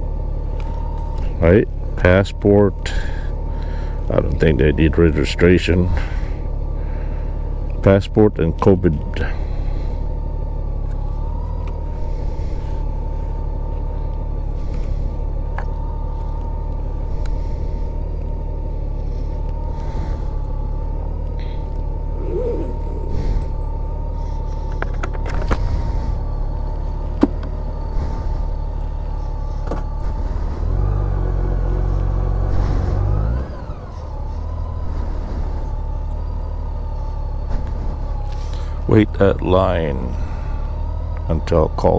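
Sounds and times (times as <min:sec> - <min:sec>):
motorcycle engine rumbling: 0:00.0 - 0:41.9.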